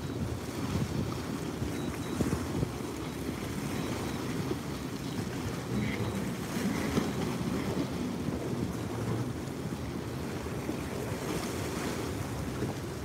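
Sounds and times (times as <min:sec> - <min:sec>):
wind buffeting microphone: 0:00.0 - 0:13.0
small waves splashing against rocks: 0:00.4 - 0:13.0.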